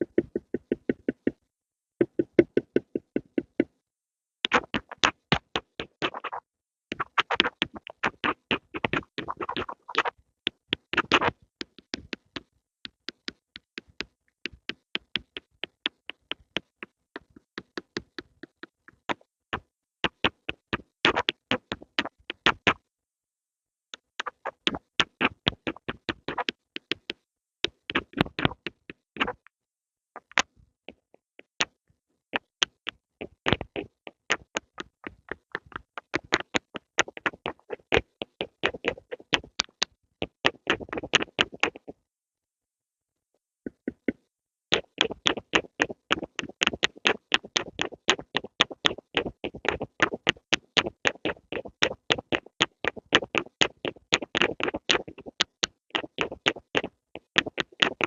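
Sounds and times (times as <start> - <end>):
pencil tapping and clicking: 0.0 - 1.4, 2.0 - 3.8, 6.9 - 22.8, 24.0 - 29.5, 32.4 - 42.0, 43.7 - 58.0.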